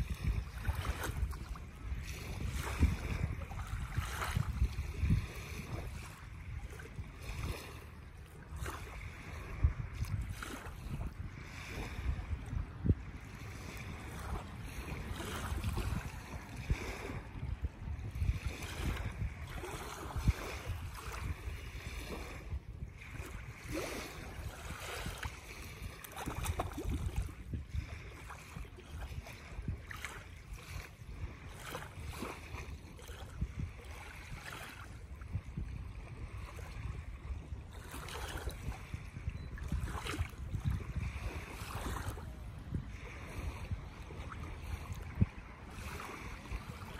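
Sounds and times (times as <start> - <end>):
small waves lapping on shore: 0.0 - 46.9
wind buffeting microphone: 0.0 - 46.9.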